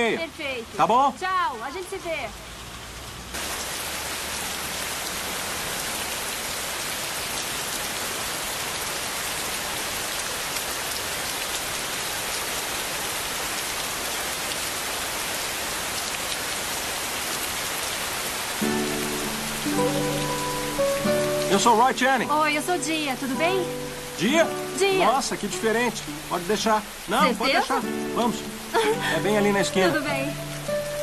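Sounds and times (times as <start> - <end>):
steady rain on street: 0.0 - 31.0.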